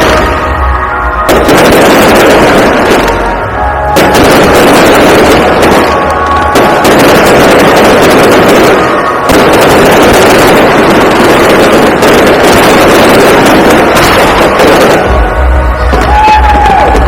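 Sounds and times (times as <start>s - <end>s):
aerial fireworks bursting and crackling: 0.0s - 17.0s.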